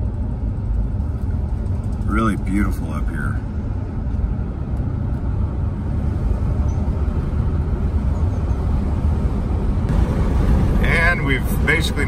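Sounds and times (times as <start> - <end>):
road and engine rumble in truck cabin: 0.0 - 12.0.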